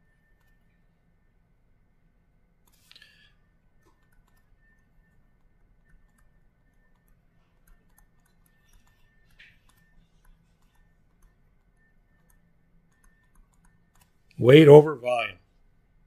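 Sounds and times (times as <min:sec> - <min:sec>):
stylus ticking on tablet screen: 0:00.0 - 0:01.3, 0:02.6 - 0:14.4
low room hum: 0:00.0 - 0:16.0.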